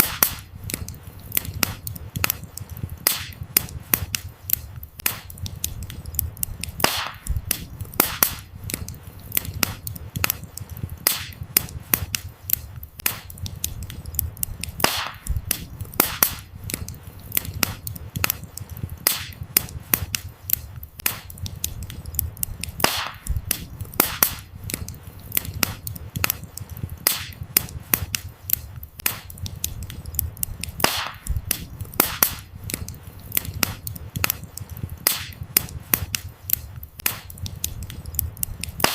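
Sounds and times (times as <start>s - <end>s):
firewood crackling and popping: 0.0s - 38.9s
low rumble of flames: 0.0s - 38.9s.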